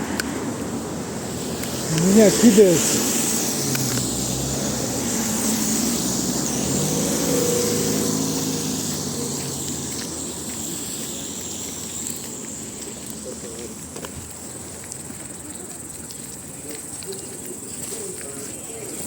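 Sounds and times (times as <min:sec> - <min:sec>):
car engine passing by: 0:00.0 - 0:15.4.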